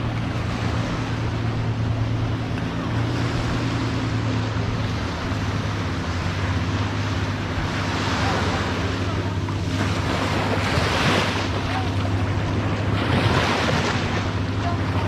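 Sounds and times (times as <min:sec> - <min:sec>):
boat engine humming: 0:00.0 - 0:15.0
waves: 0:00.0 - 0:15.0
wind: 0:00.0 - 0:15.0.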